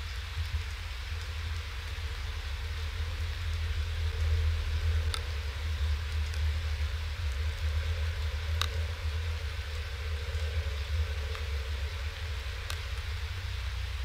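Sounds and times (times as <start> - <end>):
low even rumble: 0.0 - 14.0
rain hiss: 0.0 - 14.0
raindrops ticking on camera: 0.0 - 14.0.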